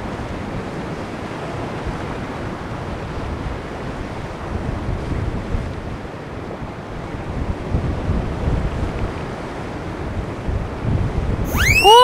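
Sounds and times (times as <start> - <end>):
wind buffeting the microphone: 0.0 - 11.5.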